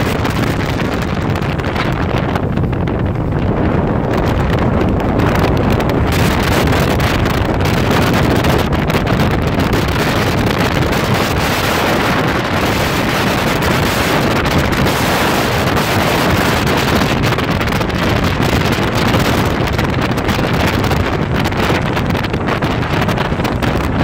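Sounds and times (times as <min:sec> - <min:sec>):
motorboat running: 0:00.0 - 0:24.0
water noise: 0:00.0 - 0:24.0
wind rushing on microphone: 0:00.0 - 0:24.0.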